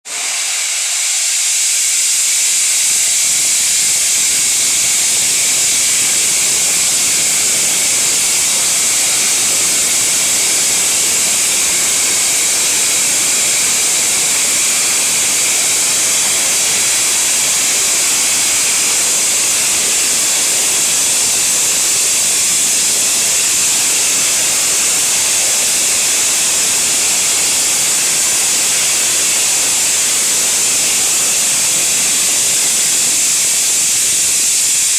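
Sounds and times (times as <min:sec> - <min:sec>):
steam jetting hiss: 0:00.0 - 0:34.9.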